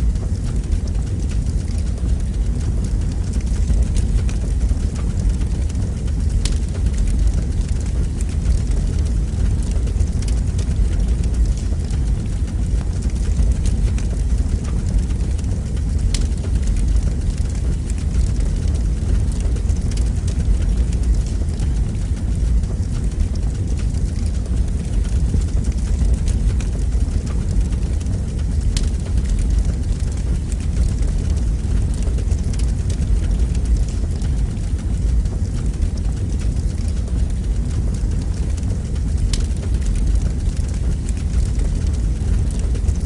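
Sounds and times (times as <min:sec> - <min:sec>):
fire burning in fireplace: 0:00.0 - 0:43.0
fire crackles: 0:00.0 - 0:43.0.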